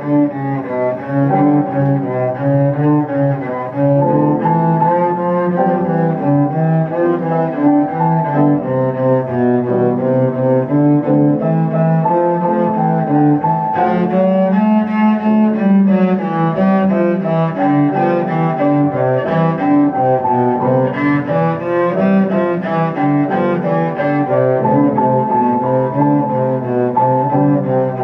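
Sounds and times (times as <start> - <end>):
cello melody: 0.0 - 28.0
piano accompaniment: 0.0 - 28.0.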